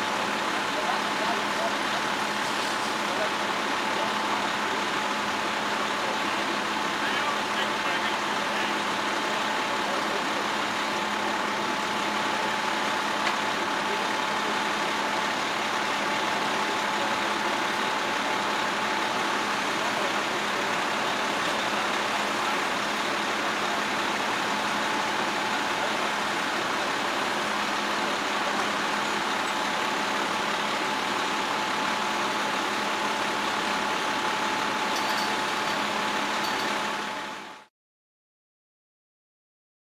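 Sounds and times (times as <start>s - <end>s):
large engine whining: 0.0s - 37.7s.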